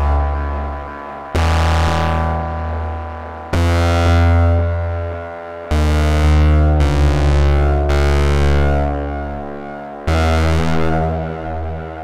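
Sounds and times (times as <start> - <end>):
low synthesizer note: 0.0 - 12.0.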